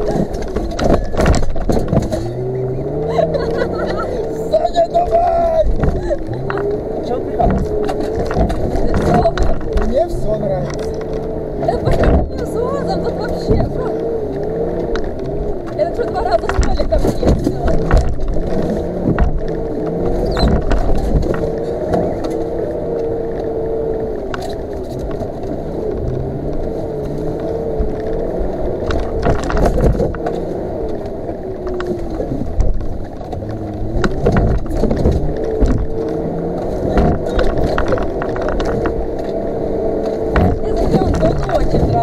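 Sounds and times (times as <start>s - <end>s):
off-road vehicle engine whine: 0.0s - 42.0s
suspension knocks and rattles: 0.0s - 42.0s.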